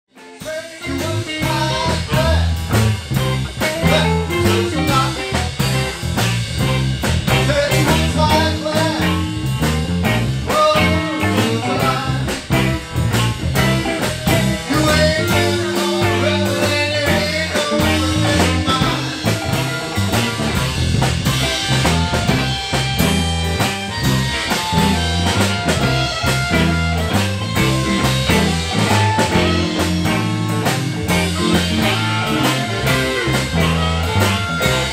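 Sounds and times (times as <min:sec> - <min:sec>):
bass: 0:00.0 - 0:34.9
drum kit: 0:00.1 - 0:34.9
electric guitar: 0:00.1 - 0:34.9
harmonica: 0:00.3 - 0:34.9.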